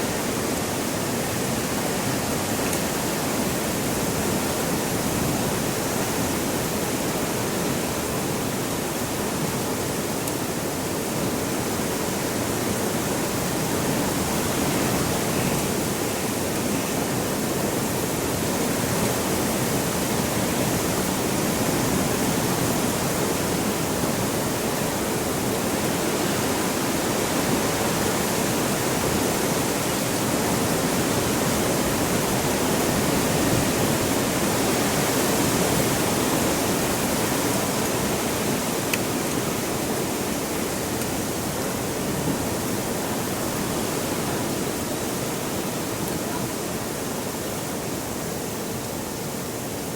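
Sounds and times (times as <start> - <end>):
heavy wind blowing: 0.0 - 49.9.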